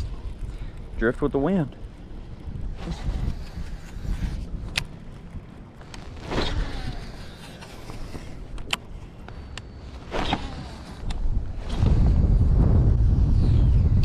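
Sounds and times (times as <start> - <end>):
fishing reel spool whirring: 0.0 - 12.3
wind buffeting microphone: 0.0 - 14.0.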